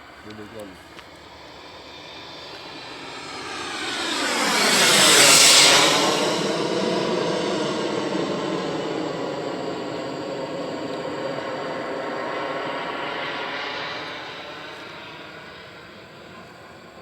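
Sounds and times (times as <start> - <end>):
model jet turbines whining overhead: 0.0 - 17.0.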